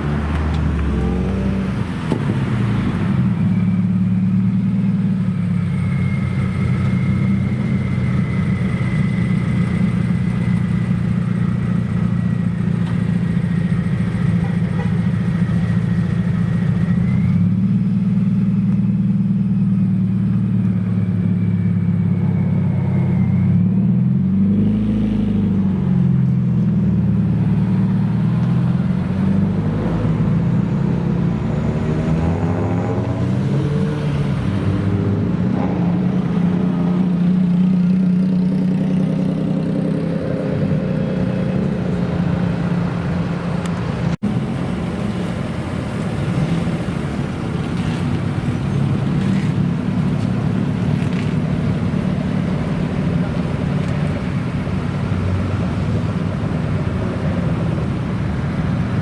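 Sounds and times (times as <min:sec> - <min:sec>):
car engine revving: 0:00.0 - 0:25.8, 0:27.0 - 0:59.0.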